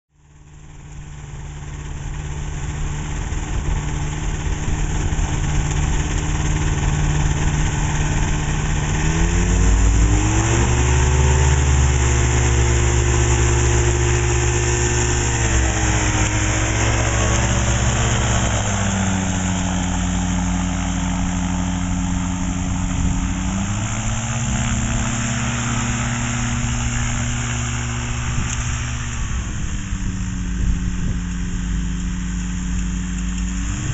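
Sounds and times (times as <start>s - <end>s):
ultralight engine and propeller: 0.1s - 33.9s.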